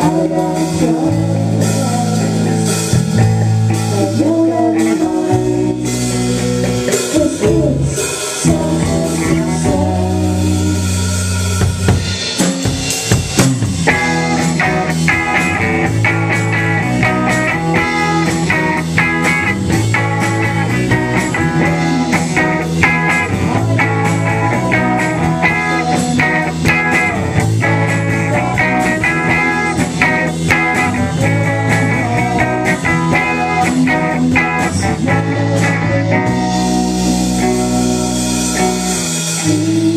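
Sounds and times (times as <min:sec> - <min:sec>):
bass guitar notes: 0:00.0 - 0:39.9
drum kit drumming: 0:00.0 - 0:39.9
electric guitar: 0:00.0 - 0:39.9.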